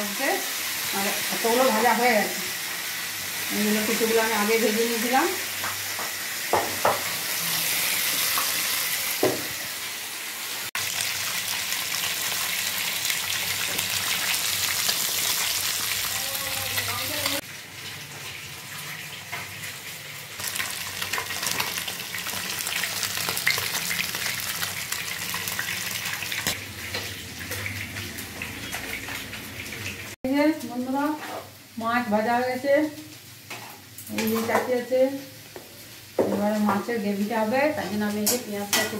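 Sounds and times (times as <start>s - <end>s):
fish sizzling in hot oil: 0.0s - 36.2s.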